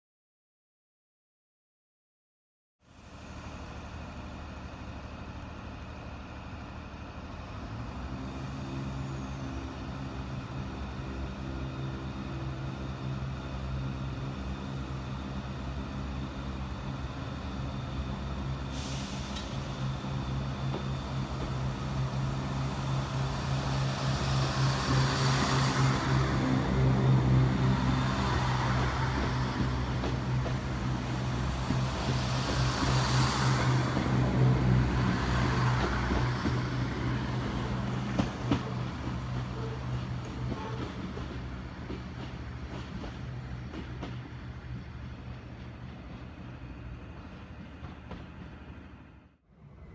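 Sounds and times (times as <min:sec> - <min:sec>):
electric train passing slowly: 0:02.9 - 0:49.9.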